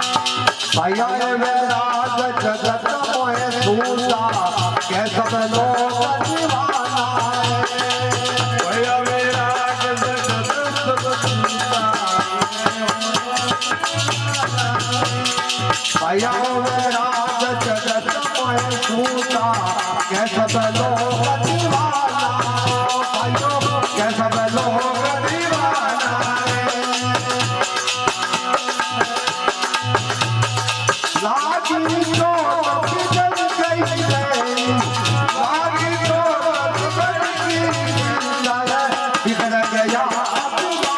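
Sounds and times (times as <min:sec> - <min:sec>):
hand percussion rattling: 0:00.0 - 0:40.9
person singing: 0:00.0 - 0:40.9.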